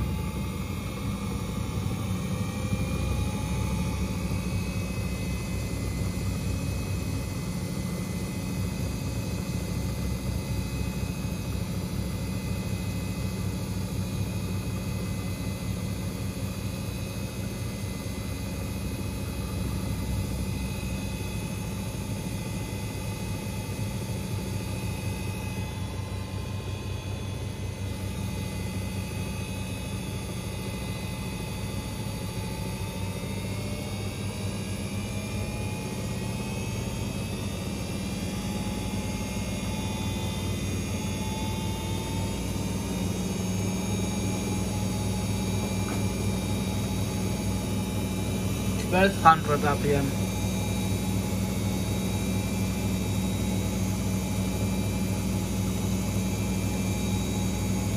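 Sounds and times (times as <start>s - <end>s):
washing machine spinning: 0.0s - 57.9s.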